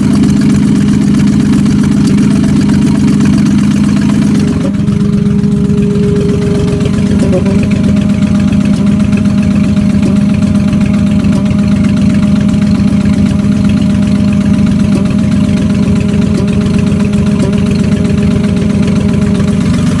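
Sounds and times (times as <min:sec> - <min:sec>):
car engine idling: 0:00.0 - 0:20.0
rapid rhythmic engine knock: 0:00.0 - 0:20.0.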